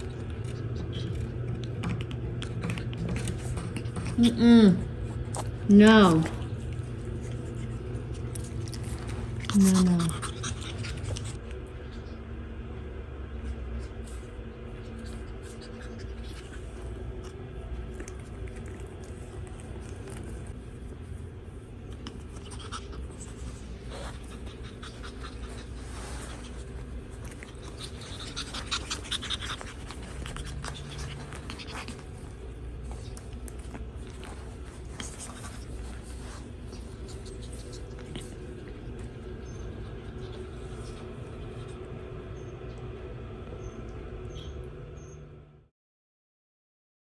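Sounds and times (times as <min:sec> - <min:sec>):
puppies scratching and rustling: 0:00.0 - 0:44.6
low hum: 0:00.0 - 0:45.7.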